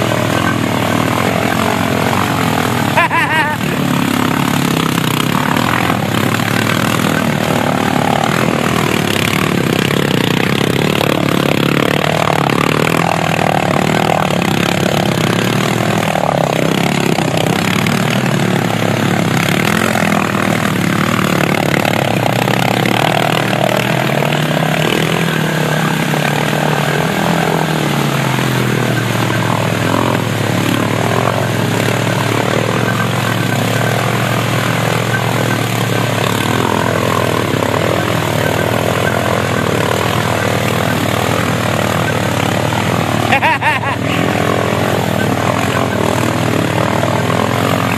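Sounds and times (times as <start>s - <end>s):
quad bike engine revving: 0.0s - 47.9s.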